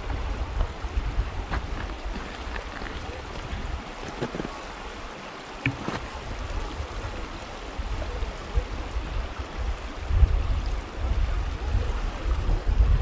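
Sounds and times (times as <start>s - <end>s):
wind buffeting microphone: 0.0s - 4.7s, 5.6s - 13.0s.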